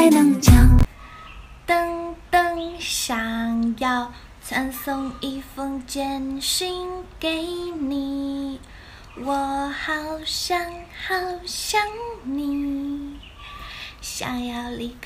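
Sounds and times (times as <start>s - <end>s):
woman singing: 0.0s - 0.9s, 1.7s - 13.3s, 14.0s - 15.0s.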